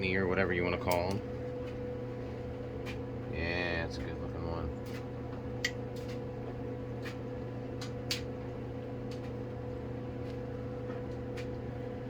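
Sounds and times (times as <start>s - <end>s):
fan low hum: 0.0s - 12.0s.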